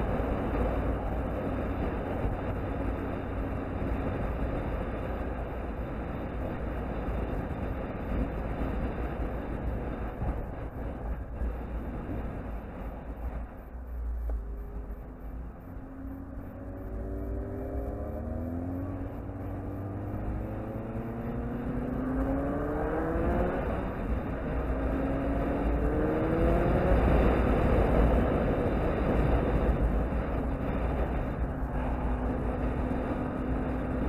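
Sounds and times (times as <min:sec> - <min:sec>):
motorcycle engine accelerating: 0:00.0 - 0:34.0
wind noise on microphone: 0:00.0 - 0:34.0.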